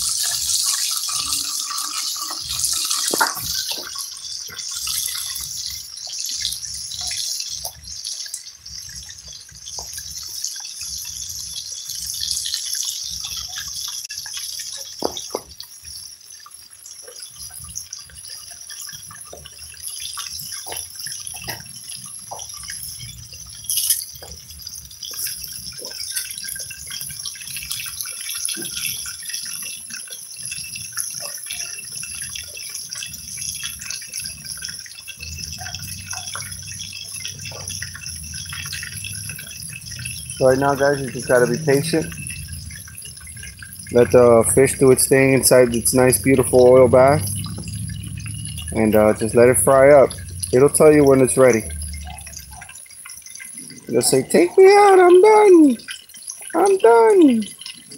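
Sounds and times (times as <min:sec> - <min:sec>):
fish sizzling in oil: 0:00.0 - 0:57.9
oil popping and crackling: 0:00.0 - 0:57.9.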